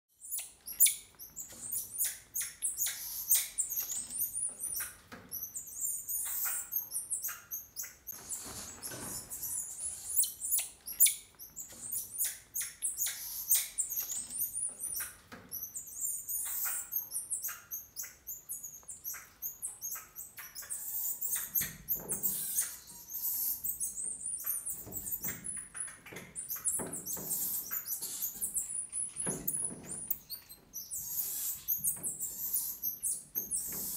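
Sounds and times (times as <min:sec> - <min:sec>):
monkeys chirping and squeaking: 0:00.2 - 0:33.9.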